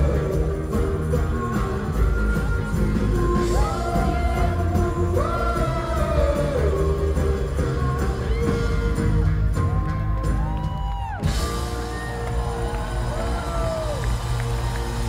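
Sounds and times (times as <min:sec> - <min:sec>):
lead and backing singing: 0:00.0 - 0:15.0
live rock band playing: 0:00.0 - 0:15.0.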